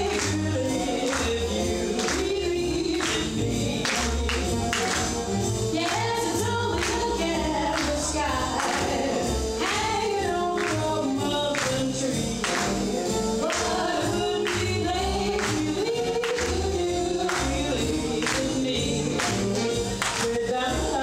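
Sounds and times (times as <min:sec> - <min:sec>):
upbeat song with several voices: 0:00.0 - 0:21.0.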